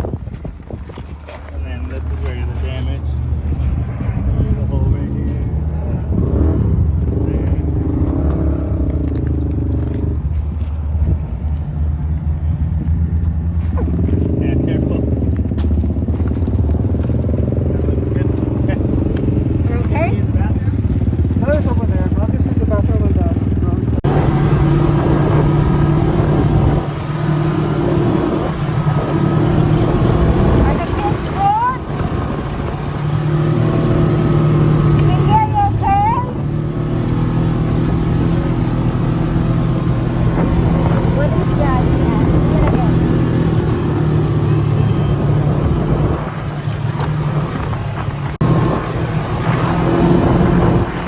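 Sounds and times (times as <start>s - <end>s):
wind rumbling on microphone: 0.0s - 22.4s, 23.8s - 51.0s
atv engine running: 0.0s - 51.0s.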